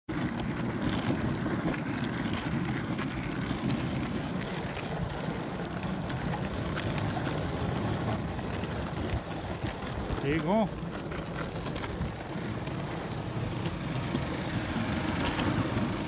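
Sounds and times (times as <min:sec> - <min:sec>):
longboard wheels rolling on asphalt: 0:00.1 - 0:16.0.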